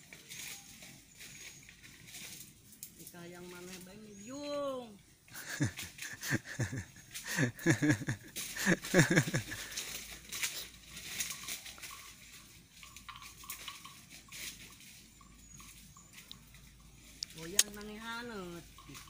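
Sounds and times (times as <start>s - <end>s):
clicking and rustling of grazing: 0.0s - 19.0s.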